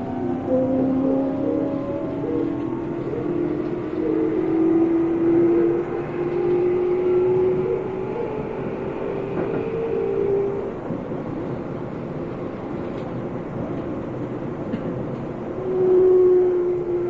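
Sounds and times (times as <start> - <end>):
train motor hum: 0.0 - 17.0
train wheels rumbling on rails: 0.0 - 17.0.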